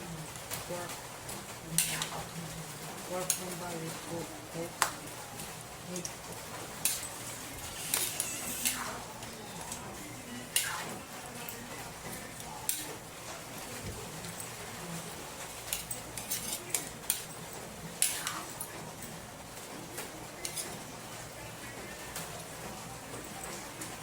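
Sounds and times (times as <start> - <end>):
kitchen utensils clinking: 3.1 - 24.0.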